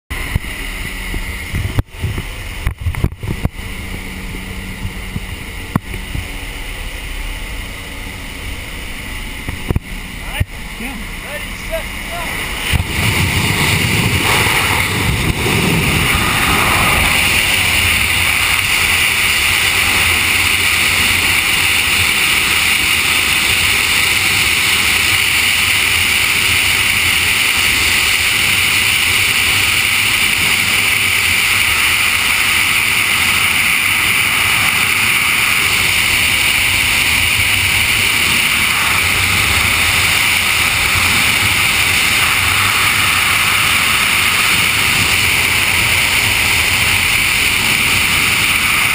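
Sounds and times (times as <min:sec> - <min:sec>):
freefall wind buffeting microphone: 0:00.1 - 0:48.9.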